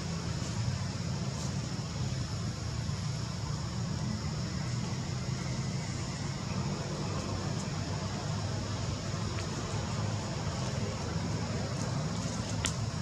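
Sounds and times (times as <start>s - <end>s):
even hiss: 0.0s - 13.0s
steady low rumble: 0.0s - 13.0s.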